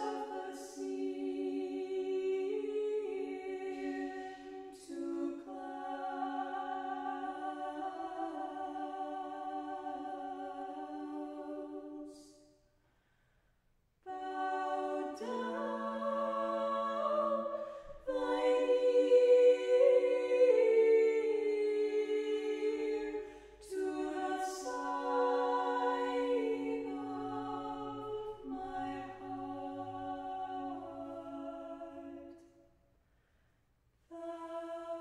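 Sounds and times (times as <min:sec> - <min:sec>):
choir singing a cappella hymn: 0:00.0 - 0:12.5, 0:14.0 - 0:32.6, 0:34.1 - 0:35.0.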